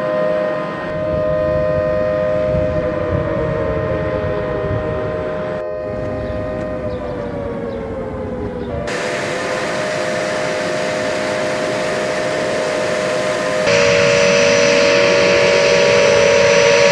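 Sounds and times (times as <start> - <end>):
jet engines whining: 0.0 - 16.9.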